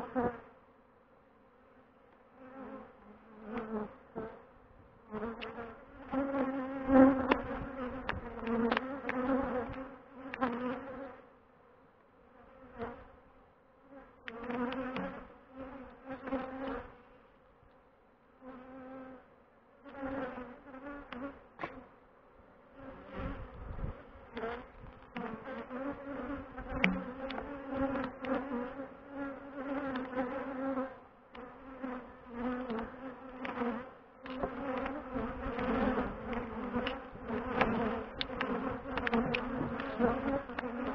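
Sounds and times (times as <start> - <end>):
bees buzzing: 0.0 - 11.4, 12.3 - 17.4, 18.4 - 40.9.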